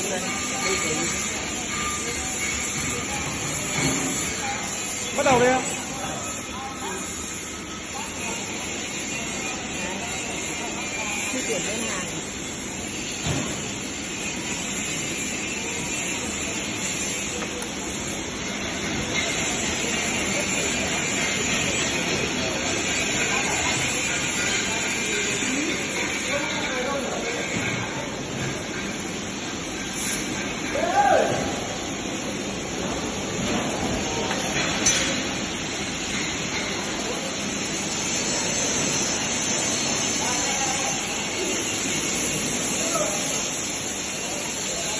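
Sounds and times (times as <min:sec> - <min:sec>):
welding arc hissing: 0:00.0 - 0:44.9.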